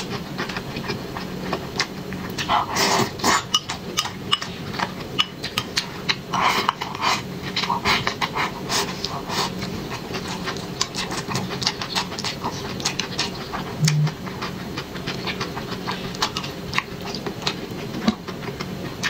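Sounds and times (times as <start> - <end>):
wet chewing and mouth smacking: 0.0 - 19.0.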